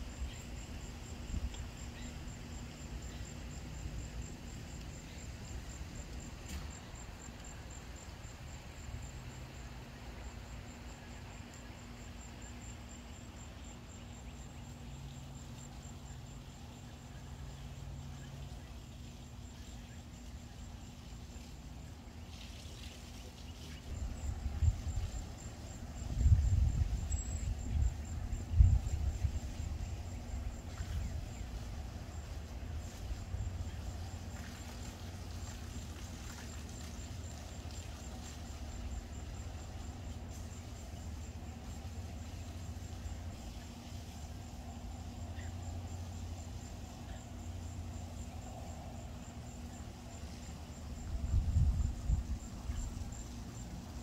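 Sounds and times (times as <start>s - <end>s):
high-pitched insect trill: 0.0s - 54.0s.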